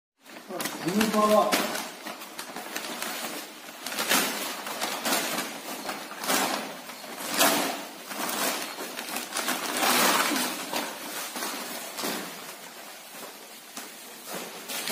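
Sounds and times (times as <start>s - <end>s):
plastic packets rustling: 0.2s - 14.9s
powder and compost pouring: 0.4s - 14.9s.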